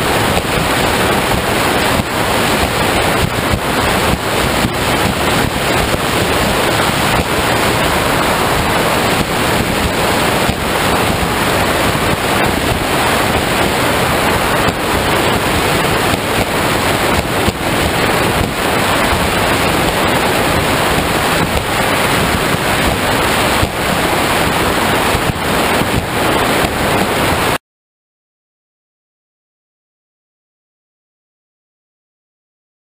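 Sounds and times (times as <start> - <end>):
water rushing and spraying: 0.0 - 27.6
wind buffeting microphone: 0.0 - 27.6.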